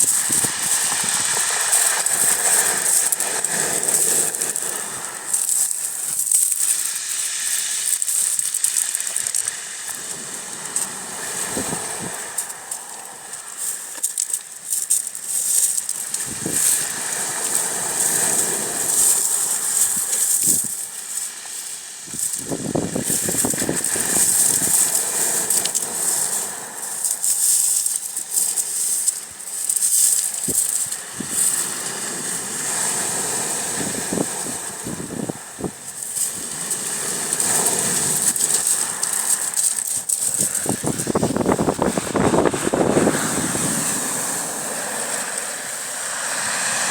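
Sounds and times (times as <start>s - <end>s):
waves washing against shore: 0.0s - 46.9s.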